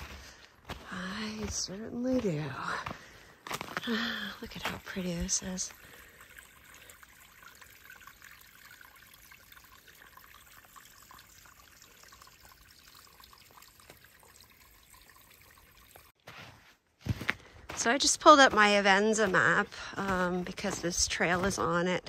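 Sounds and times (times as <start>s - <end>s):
creek trickling over rocks: 0.0s - 16.2s, 17.7s - 22.0s.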